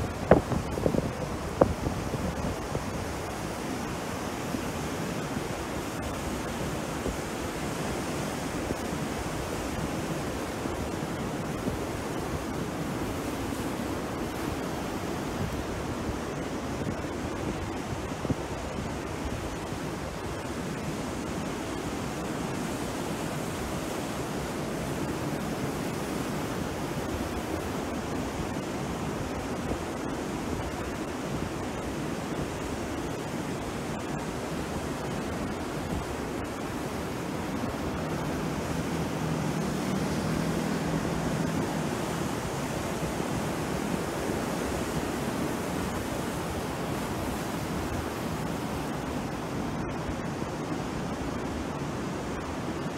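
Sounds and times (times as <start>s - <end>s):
rough surf breaking: 0.0s - 52.6s.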